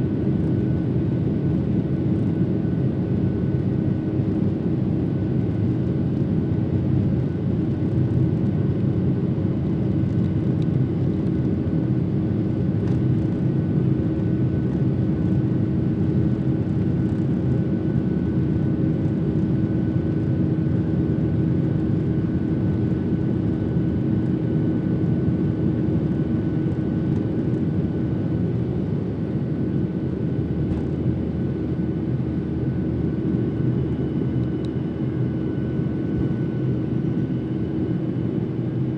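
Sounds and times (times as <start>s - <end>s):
jet engines humming in cabin: 0.0s - 38.9s.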